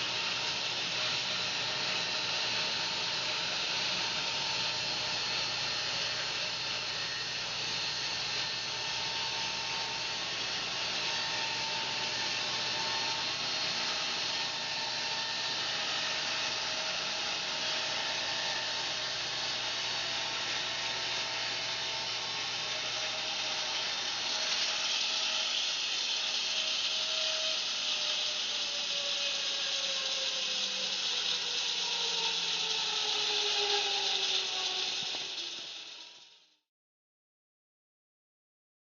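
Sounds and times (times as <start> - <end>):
bandsaw mill whine: 0.0 - 36.6.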